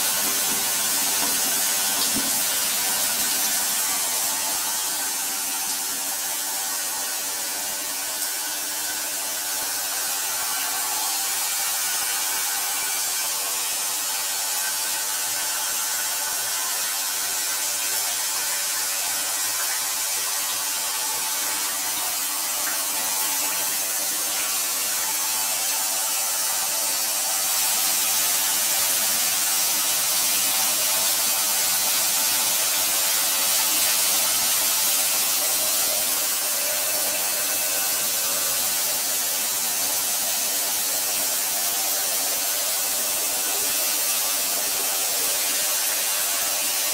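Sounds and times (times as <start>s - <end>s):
shower water spraying: 0.0s - 46.9s.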